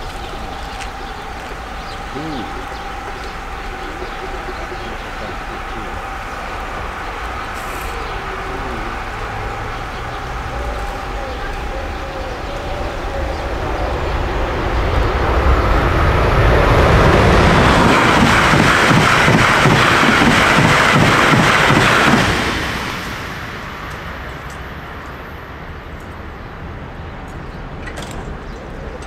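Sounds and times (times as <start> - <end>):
wheels clattering over rails: 0.0 - 26.2
train passing: 0.0 - 29.0.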